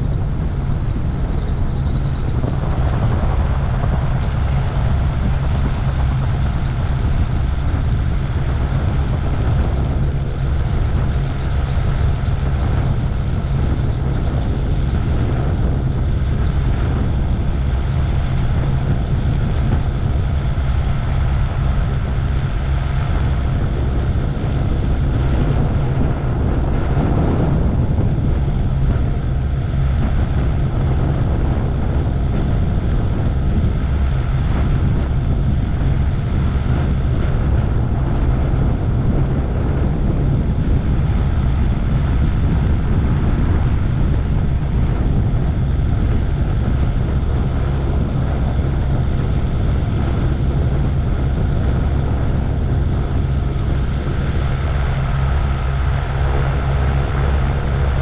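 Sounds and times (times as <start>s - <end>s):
gyroplane engine and propeller drone: 0.0s - 58.0s.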